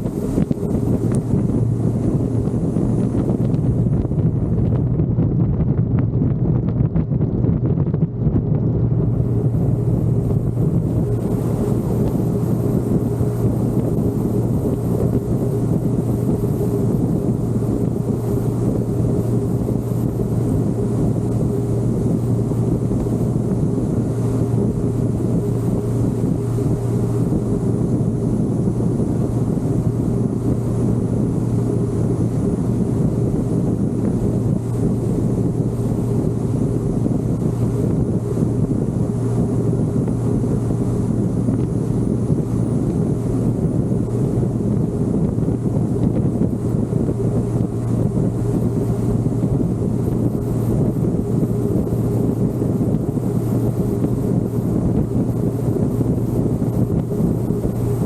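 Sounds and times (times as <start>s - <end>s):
car engine running steadily: 0.0s - 58.0s
wind buffeting microphone: 0.0s - 58.0s.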